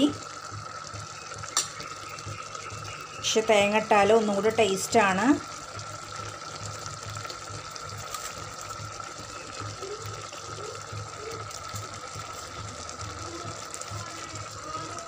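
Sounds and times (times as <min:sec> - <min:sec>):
syrup bubbling in a pot: 0:00.0 - 0:15.0.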